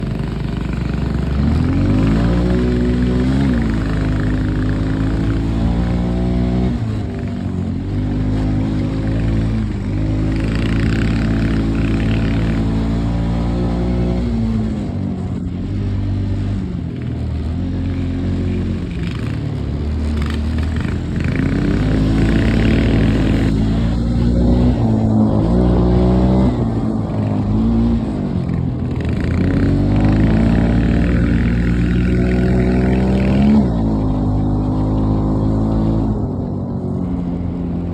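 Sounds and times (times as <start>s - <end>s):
mini bike engine revving: 0.0s - 37.9s.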